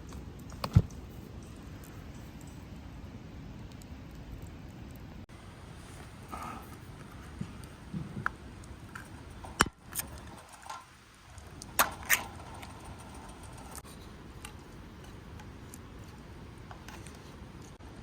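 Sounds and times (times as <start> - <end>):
steady low background noise: 0.0 - 18.0.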